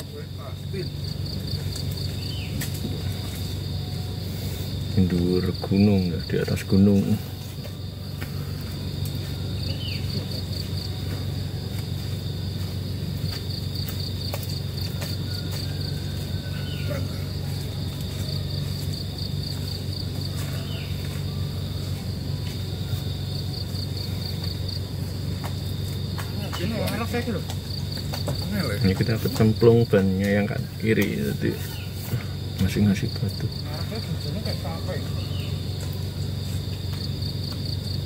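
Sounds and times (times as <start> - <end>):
crickets trilling: 0.0 - 38.0
vehicle engine idling: 0.0 - 38.0.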